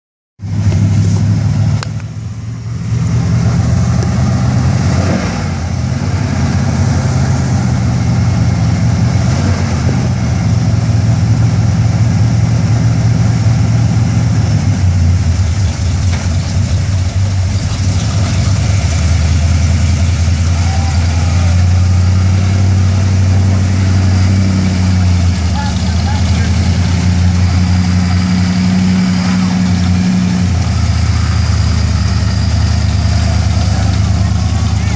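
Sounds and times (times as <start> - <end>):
engine running at low revs: 0.4 - 34.9.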